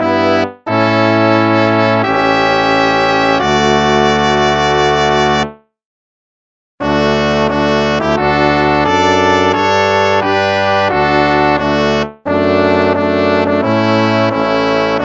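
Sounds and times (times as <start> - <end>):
instrumental hymn music: 0.0 - 5.6, 6.8 - 15.0.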